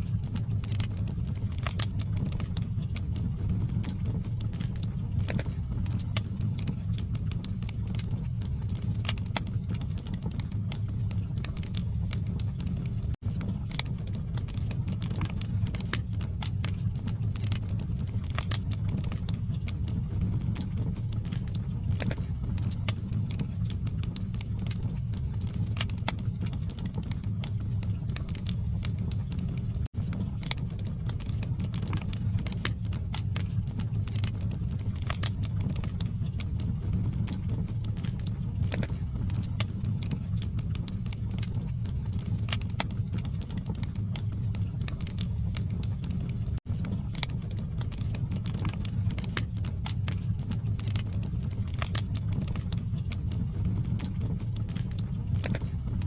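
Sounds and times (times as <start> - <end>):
wood crackling and popping: 0.0 - 56.0.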